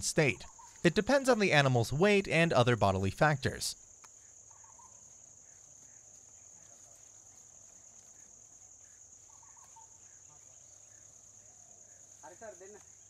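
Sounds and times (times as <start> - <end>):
faint insect chirp: 0.0 - 13.0.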